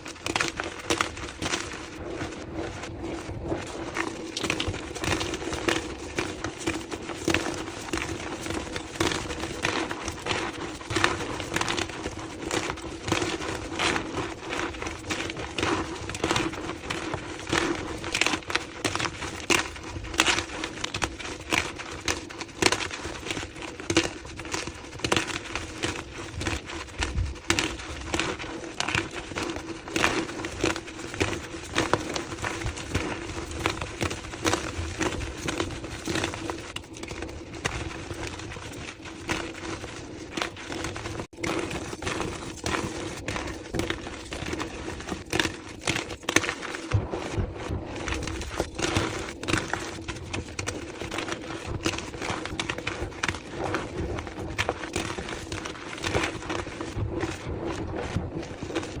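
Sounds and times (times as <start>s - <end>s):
chalk crunching and crackling: 0.0s - 59.0s.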